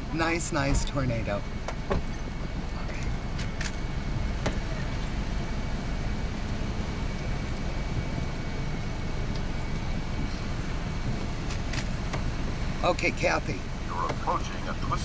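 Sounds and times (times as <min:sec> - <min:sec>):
car interior engine rumble: 0:00.0 - 0:15.0.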